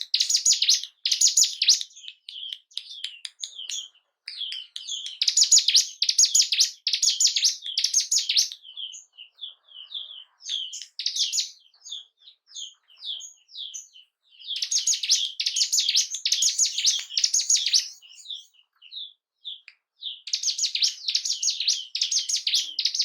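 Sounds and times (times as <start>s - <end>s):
bird chirping and chattering song: 0.0s - 23.0s.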